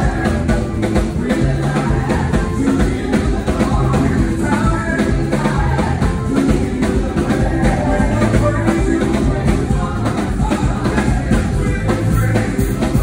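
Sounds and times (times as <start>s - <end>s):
drum kit beat: 0.0s - 13.0s
gospel band playing: 0.0s - 13.0s.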